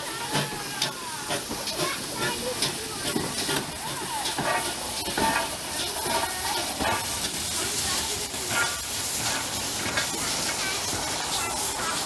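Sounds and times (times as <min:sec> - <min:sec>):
indistinct voices: 0:00.0 - 0:12.0
steam locomotive hissing steam: 0:00.0 - 0:12.0.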